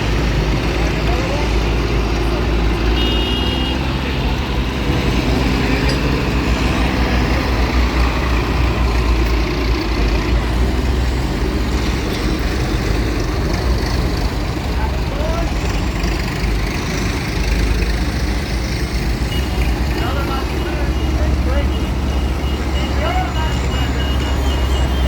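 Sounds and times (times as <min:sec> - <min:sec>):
tractor and lorry engines running: 0:00.0 - 0:25.0.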